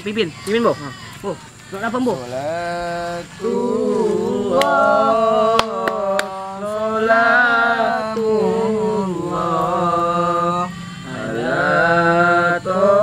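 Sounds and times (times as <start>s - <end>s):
man chanting unaccompanied: 0.0s - 13.0s.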